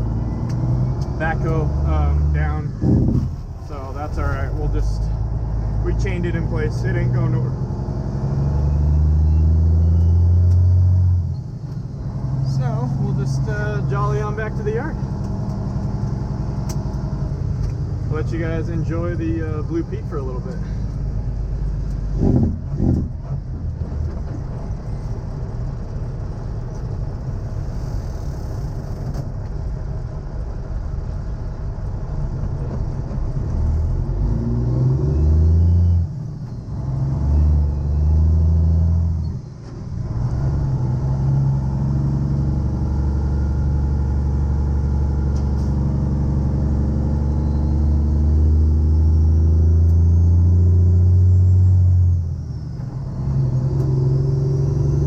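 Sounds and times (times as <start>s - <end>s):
truck diesel engine accelerating: 0.0s - 55.0s.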